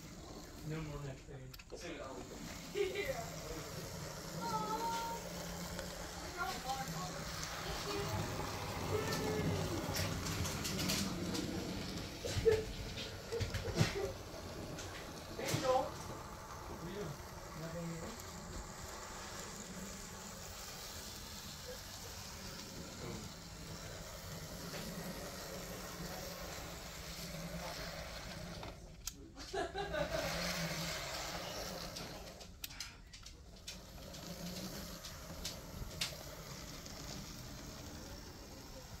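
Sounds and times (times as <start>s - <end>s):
model train motor hum: 0.0s - 39.0s.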